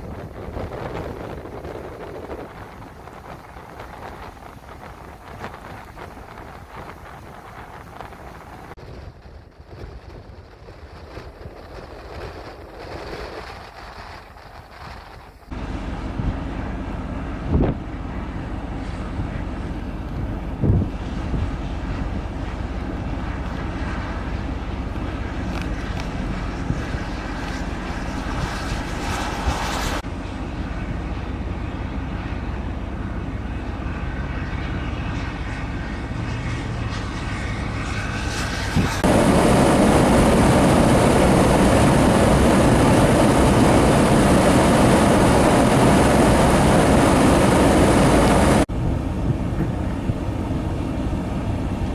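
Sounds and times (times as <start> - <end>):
harsh rushing noise: 0.0 - 30.3, 34.0 - 51.9
vehicle engine and driving noise: 0.0 - 51.9
wind: 0.0 - 51.9.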